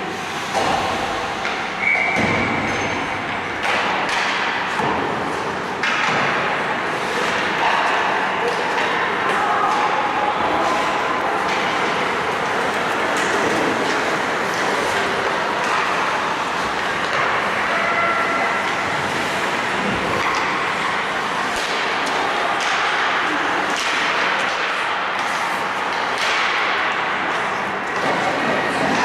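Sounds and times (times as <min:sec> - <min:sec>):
hockey sticks and puck clacking: 0:00.5 - 0:29.0.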